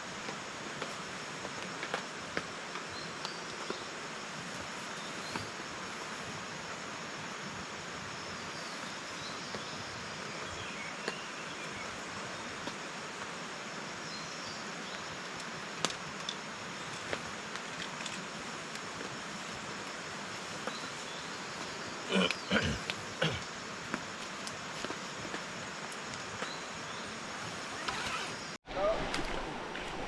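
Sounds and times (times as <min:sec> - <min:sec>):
insect chirps: 0:00.0 - 0:28.6.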